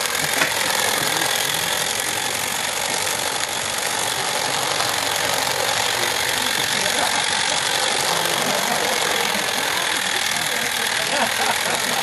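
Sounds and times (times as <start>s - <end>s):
rapid mechanical beat: 0.0s - 12.0s.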